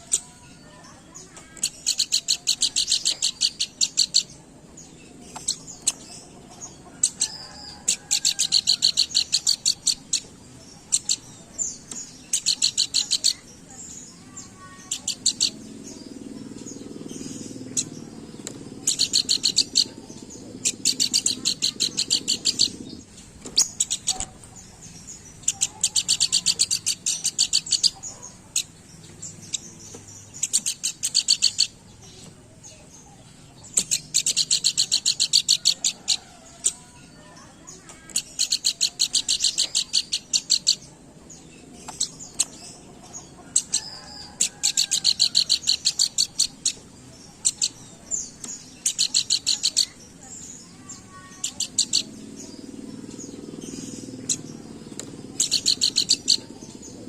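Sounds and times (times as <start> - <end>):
bird singing chattering trills: 0.0 - 57.0.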